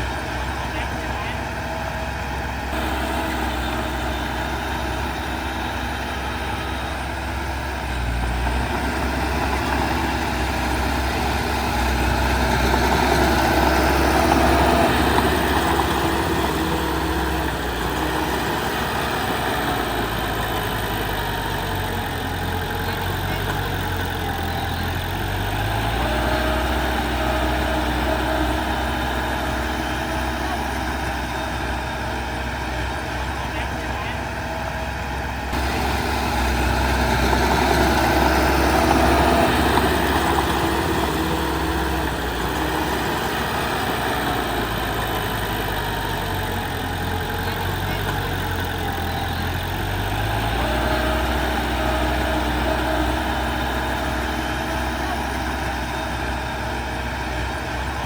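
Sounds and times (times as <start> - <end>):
heavy machinery diesel engines running: 0.0 - 58.0.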